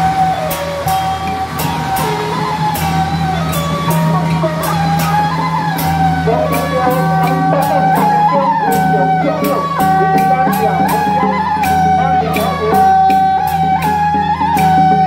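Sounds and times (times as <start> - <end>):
drums: 0.0 - 15.0
gongs and cymbals struck: 0.0 - 15.0
shrill suona melody: 0.0 - 15.0.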